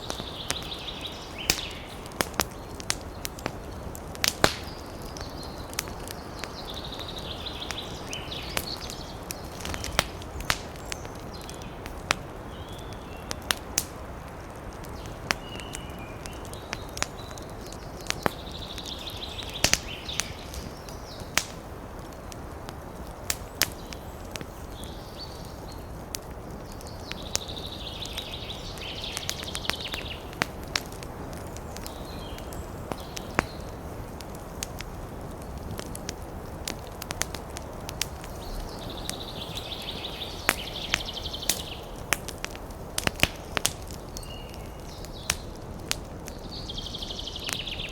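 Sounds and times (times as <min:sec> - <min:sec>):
birds chirping: 0:00.0 - 0:47.9
campfire crackling and popping: 0:00.0 - 0:47.9.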